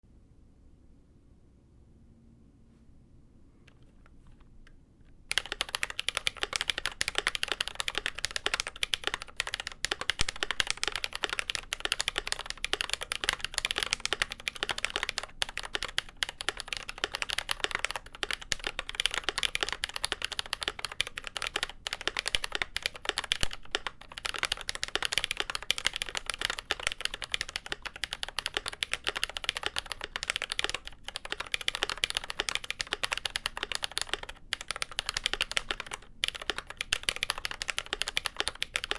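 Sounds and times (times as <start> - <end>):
mechanical keyboard typing: 5.3 - 38.9.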